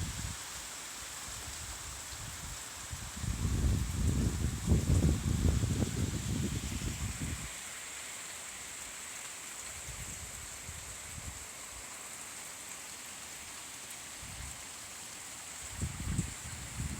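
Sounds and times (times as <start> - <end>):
steady rain hiss: 0.0 - 16.9.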